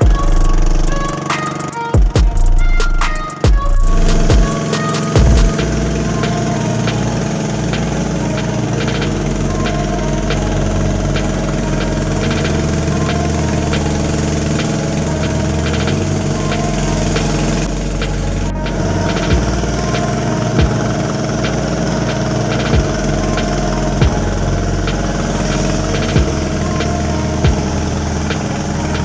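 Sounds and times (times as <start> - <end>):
small boat engine running: 0.0 - 29.0.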